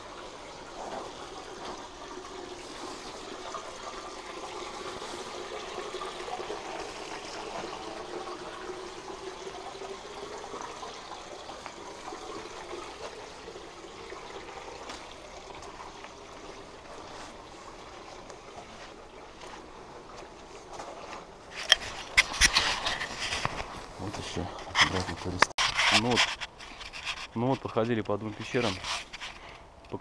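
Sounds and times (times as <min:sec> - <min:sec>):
stream trickling: 0:00.0 - 0:30.0.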